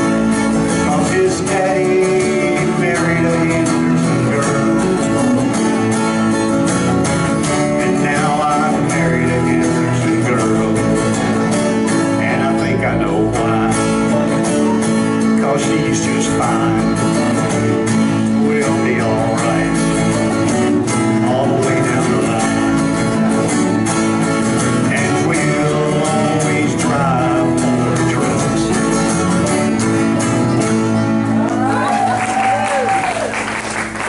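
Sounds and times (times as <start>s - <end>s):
acoustic guitar strumming chords: 0.0s - 34.0s
electric guitars: 0.0s - 34.0s.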